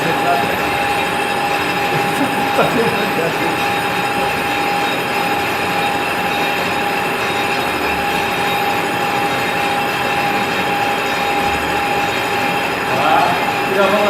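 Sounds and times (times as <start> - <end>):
workshop machine whining and grinding: 0.0 - 14.0.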